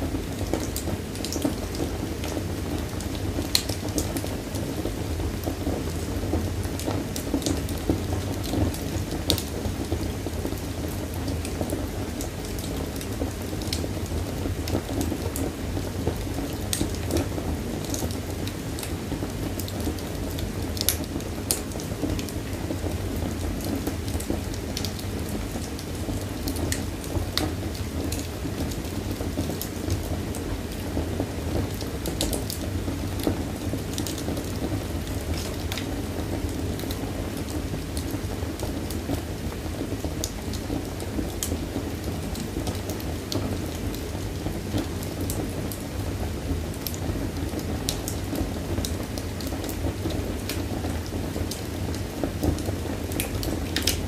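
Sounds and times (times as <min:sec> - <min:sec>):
low rumble of flames: 0:00.0 - 0:54.0
wood fire crackling and popping: 0:00.1 - 0:54.0.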